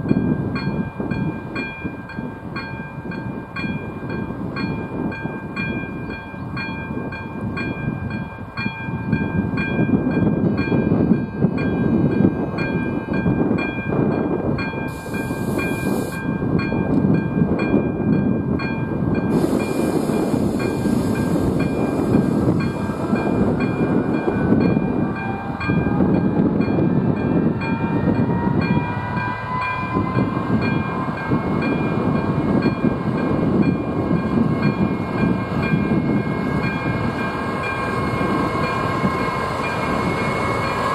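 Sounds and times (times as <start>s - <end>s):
level crossing warning bell: 0.0s - 40.9s
train wheels rumbling on rails: 0.0s - 40.9s.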